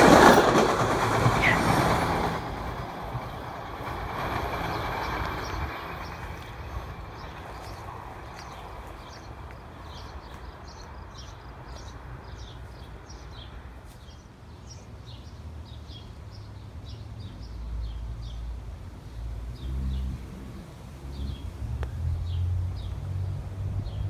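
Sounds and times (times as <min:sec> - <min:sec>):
small birds chirping: 0:00.8 - 0:20.1.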